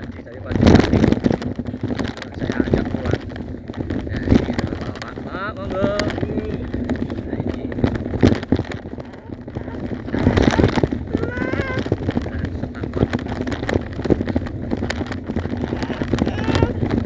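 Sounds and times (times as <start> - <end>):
bicycle rattling on dirt track: 0.0 - 17.0
wind on microphone: 0.0 - 17.0.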